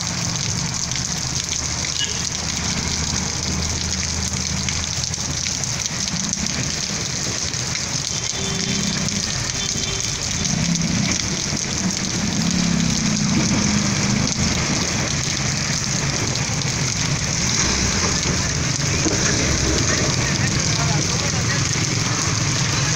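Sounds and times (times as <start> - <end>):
heavy rain on pavement: 0.0 - 22.9.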